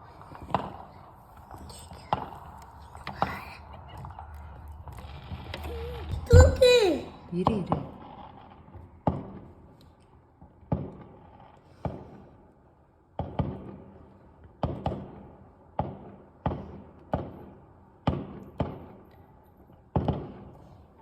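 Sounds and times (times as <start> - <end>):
fireworks bangs: 0.0 - 9.8, 10.4 - 12.3, 13.2 - 14.0, 14.6 - 19.0, 19.9 - 21.0.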